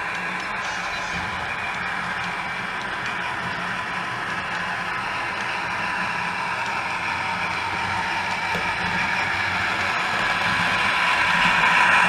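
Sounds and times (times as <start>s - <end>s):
model locomotive diesel engine sound: 0.0s - 12.0s
model wheels and motor on track: 0.0s - 12.0s.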